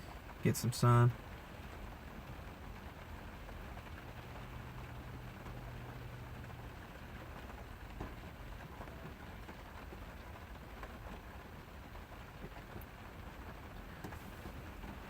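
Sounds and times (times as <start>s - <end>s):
rain on car roof: 0.0s - 15.0s.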